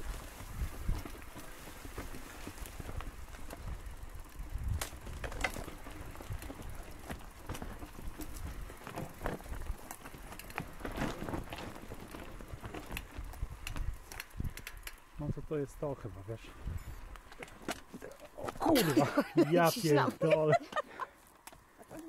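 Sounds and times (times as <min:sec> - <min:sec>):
bicycle rolling over rough trail: 0:00.0 - 0:22.0.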